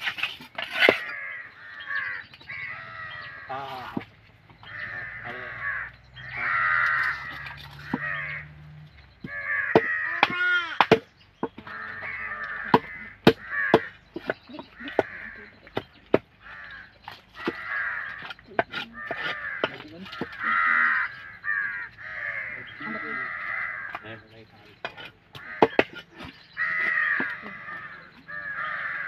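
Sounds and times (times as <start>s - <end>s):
crows cawing: 0.0s - 29.0s.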